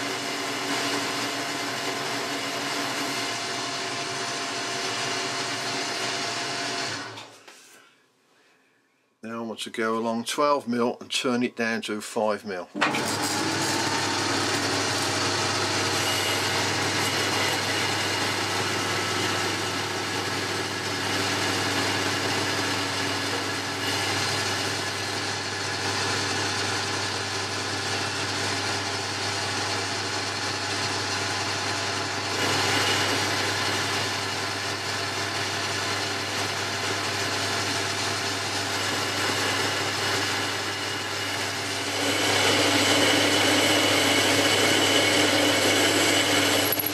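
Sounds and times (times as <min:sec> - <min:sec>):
lathe motor and gear hum: 0:00.0 - 0:07.3, 0:12.8 - 0:46.9.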